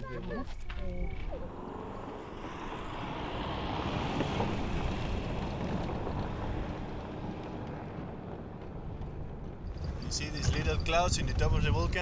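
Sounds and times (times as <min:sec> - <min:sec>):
vehicle driving on dirt track: 0:00.0 - 0:12.0
wind on microphone: 0:00.9 - 0:12.0.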